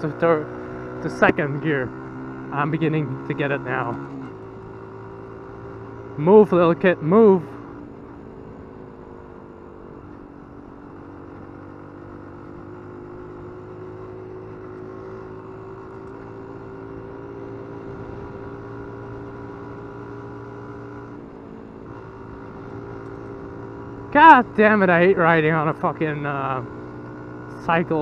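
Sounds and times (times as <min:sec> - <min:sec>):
small motorcycle engine running: 0:00.0 - 0:28.0.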